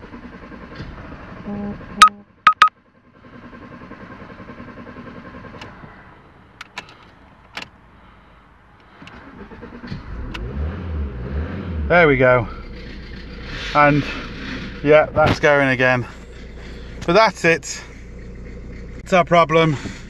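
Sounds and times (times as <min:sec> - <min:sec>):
diesel engine cranking: 0:00.0 - 0:20.0.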